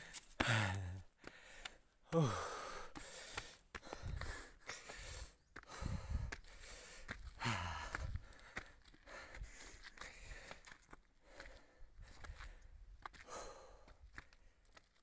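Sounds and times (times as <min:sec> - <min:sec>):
person breathing hard: 0:00.0 - 0:14.5.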